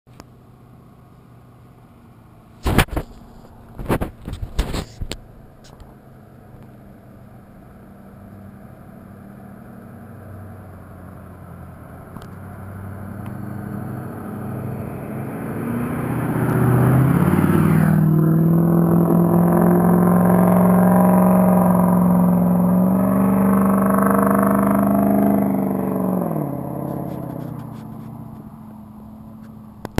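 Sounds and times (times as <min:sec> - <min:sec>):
diesel truck driving by: 0:05.0 - 0:30.0.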